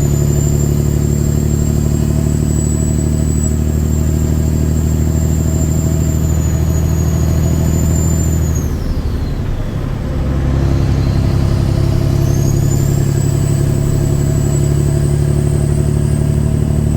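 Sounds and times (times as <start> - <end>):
truck diesel engine drone: 0.0 - 16.9
turbocharger whistle: 0.0 - 16.9.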